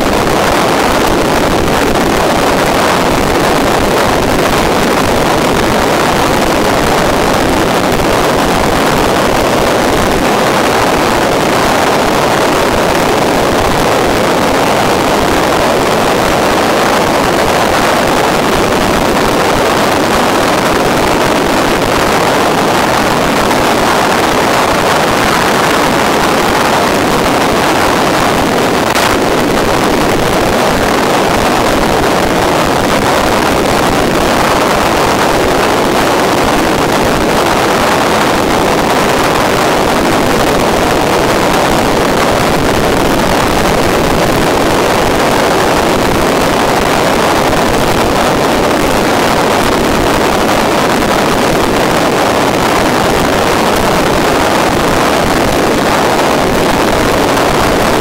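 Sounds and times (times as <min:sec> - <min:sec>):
loud steady rushing noise: 0:00.0 - 0:58.0.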